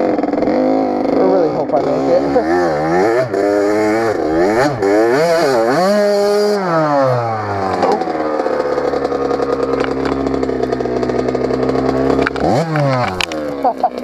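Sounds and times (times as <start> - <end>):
dirt bike engine idling: 0.0 - 14.0
dirt bike engine revving: 0.0 - 14.0.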